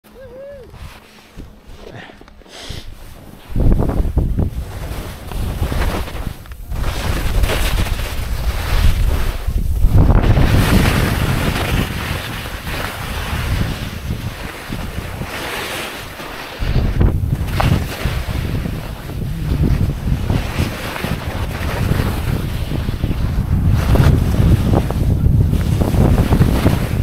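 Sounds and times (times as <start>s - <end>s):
skis scraping through snow: 0.7s - 27.0s
wind buffeting microphone: 2.9s - 27.0s.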